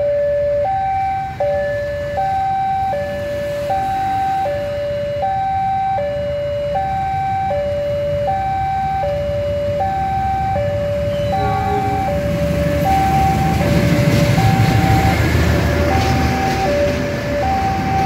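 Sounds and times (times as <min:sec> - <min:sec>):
two-tone crossing warning siren: 0:00.0 - 0:18.0
train locomotive passing: 0:00.7 - 0:04.7, 0:07.2 - 0:18.0.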